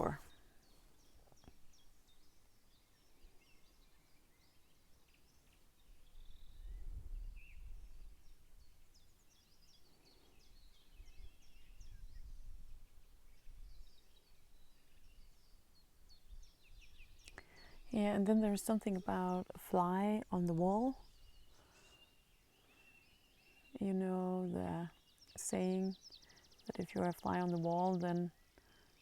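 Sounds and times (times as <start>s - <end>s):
small birds chirping and singing: 0.0s - 29.0s.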